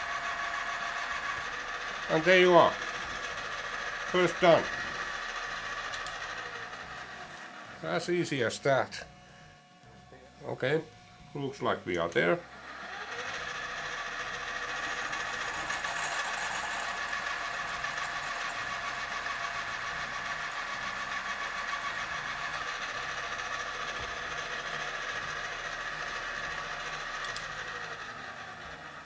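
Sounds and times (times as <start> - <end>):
drill press whining: 0.0 - 29.0.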